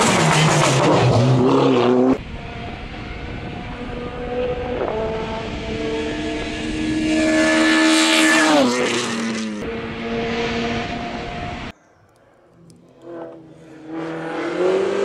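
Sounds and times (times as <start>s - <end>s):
race car engine passing by: 0.0s - 11.7s, 12.8s - 15.0s.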